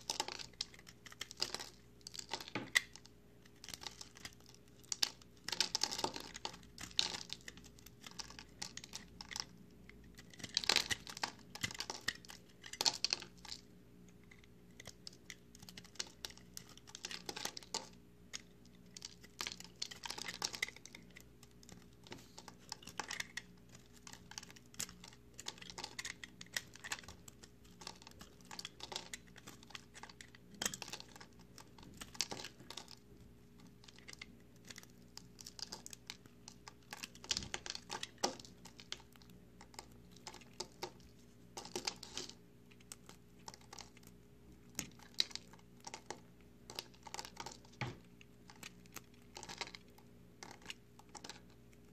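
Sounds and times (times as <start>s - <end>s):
blade cutting crumbly soap: 0.0s - 51.9s.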